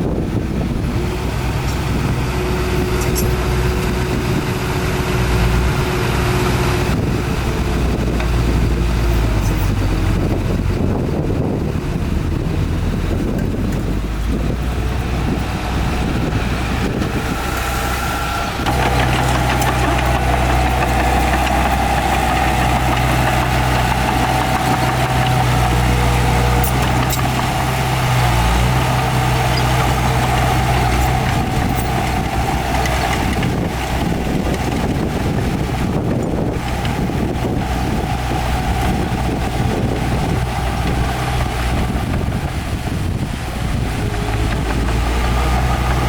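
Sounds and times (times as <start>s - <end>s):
diesel machinery engine running: 0.0s - 46.0s.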